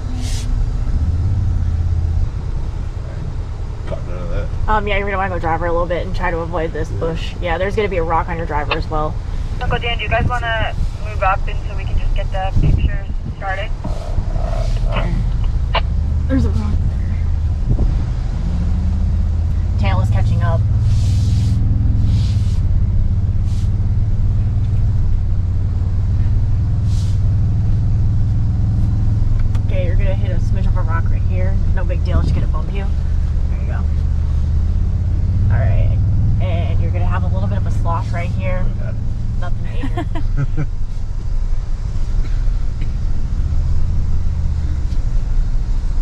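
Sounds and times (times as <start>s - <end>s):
truck engine rumble: 0.0s - 46.0s.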